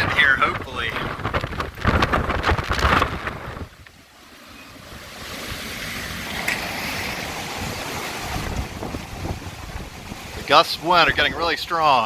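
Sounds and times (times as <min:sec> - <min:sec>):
wind buffeting microphone: 0:00.0 - 0:04.1, 0:04.8 - 0:12.0
rushing wind gust: 0:00.0 - 0:12.0.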